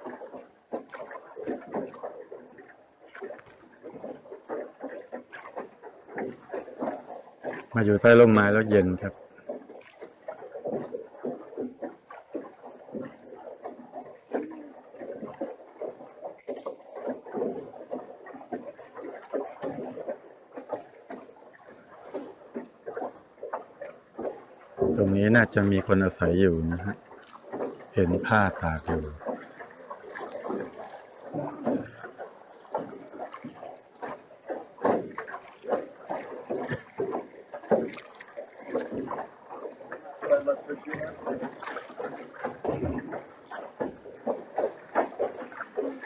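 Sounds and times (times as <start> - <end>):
oars dipping in water: 0.0 - 46.0
water sloshing against hull: 0.0 - 46.0.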